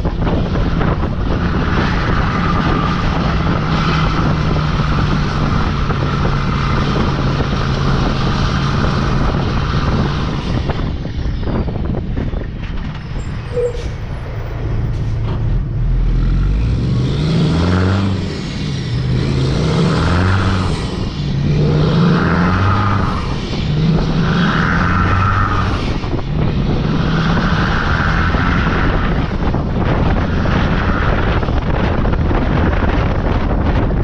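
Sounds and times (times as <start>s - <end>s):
diesel truck engine accelerating: 0.0s - 34.0s
road and wind rumble: 0.0s - 34.0s.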